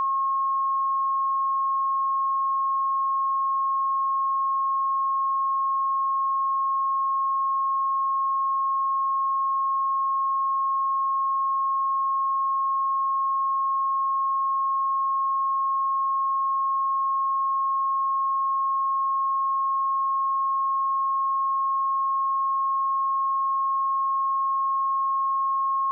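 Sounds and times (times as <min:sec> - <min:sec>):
sine wave test tone: 0:00.0 - 0:25.9.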